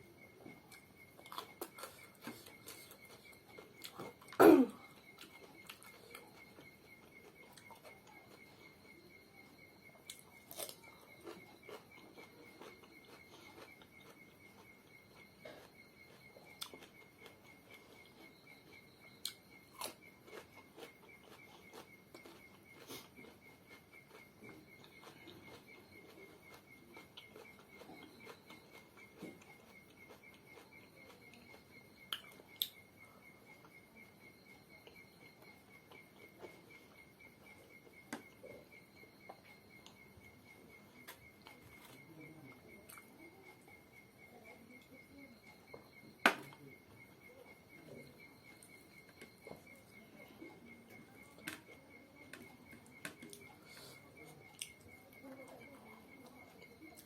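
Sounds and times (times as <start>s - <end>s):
faint high-pitched fluttering tone: 0.0s - 57.0s
soft chewing: 0.0s - 57.0s.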